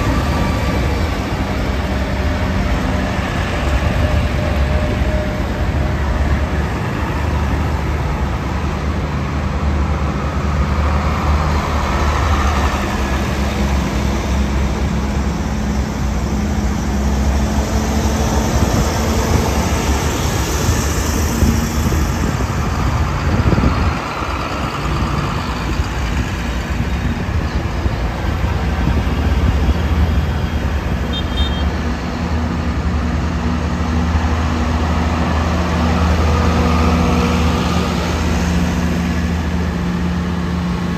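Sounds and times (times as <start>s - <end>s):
diesel tractors driving past: 0.0s - 40.9s.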